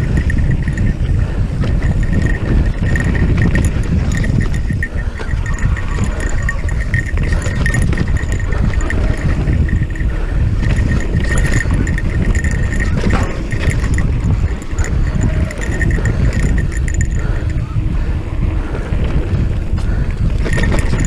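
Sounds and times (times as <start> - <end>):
bike ticking and rattling: 0.0 - 21.0
wind on microphone: 0.0 - 21.0.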